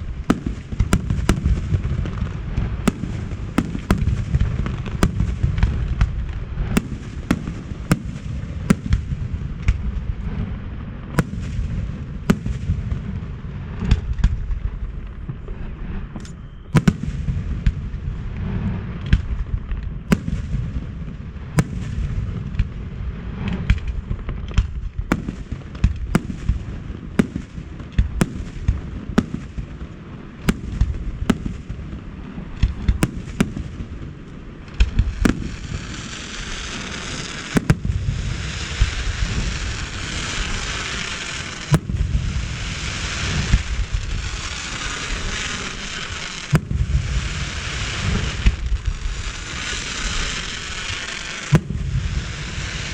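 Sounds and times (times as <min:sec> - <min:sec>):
dense fireworks crackling: 0:00.0 - 0:52.9
fireworks sharp bangs: 0:00.0 - 0:52.9.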